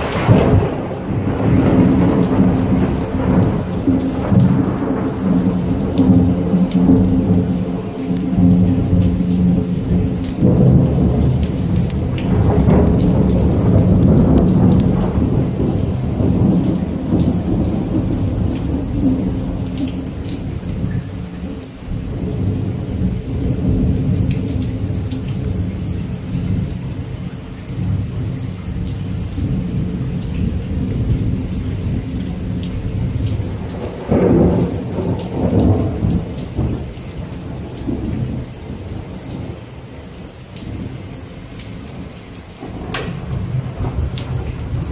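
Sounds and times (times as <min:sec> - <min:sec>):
rolling thunder: 0:00.0 - 0:39.9, 0:41.8 - 0:44.9
steady rain: 0:00.0 - 0:44.9.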